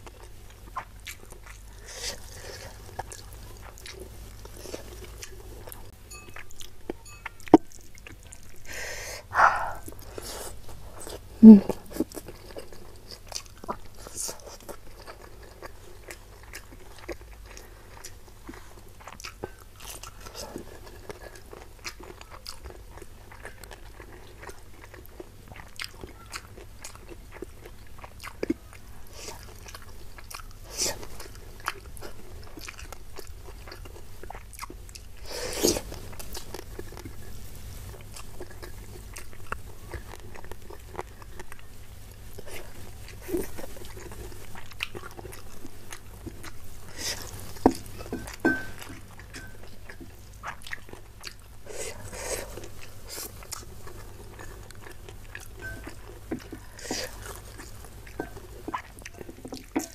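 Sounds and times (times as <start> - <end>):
chewing crunchy food: 0.0 - 59.9.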